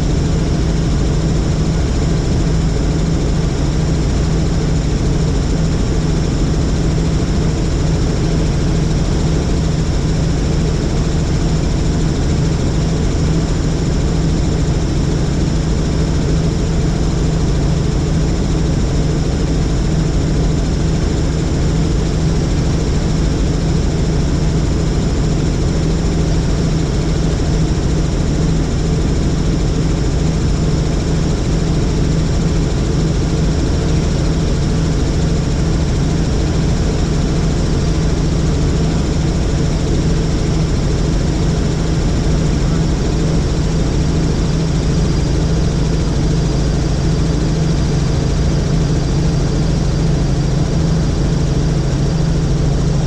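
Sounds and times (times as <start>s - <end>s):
helicopter rotor drone: 0.0s - 53.0s.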